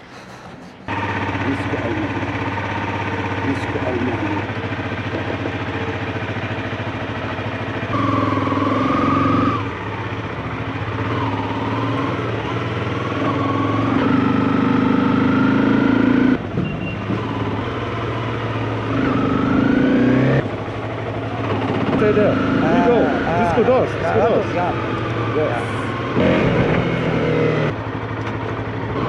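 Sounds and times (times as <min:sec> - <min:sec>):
motorcycle engine accelerating: 0:00.9 - 0:29.0.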